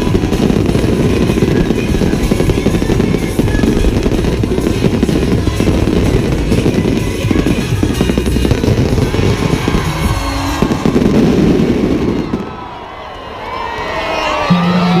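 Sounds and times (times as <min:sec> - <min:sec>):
music playing: 0:00.0 - 0:12.5
firework bangs and crackling: 0:00.0 - 0:12.9.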